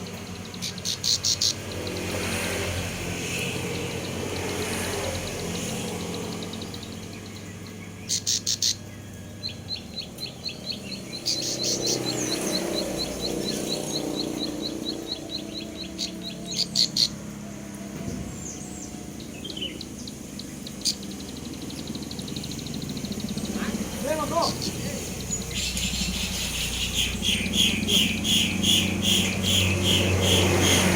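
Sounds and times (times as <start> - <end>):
bird rapid high ticking: 0.0 - 17.4, 18.4 - 30.9.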